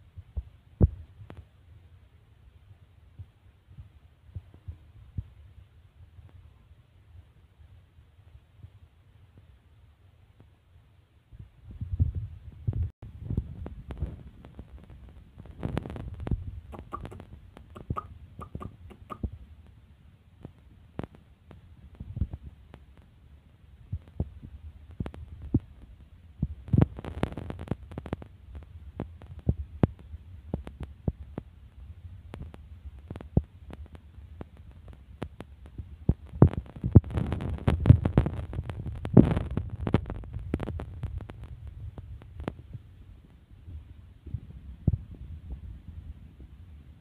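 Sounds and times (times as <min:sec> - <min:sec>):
wind rumble on microphone: 0:00.0 - 0:09.5, 0:11.2 - 0:47.0.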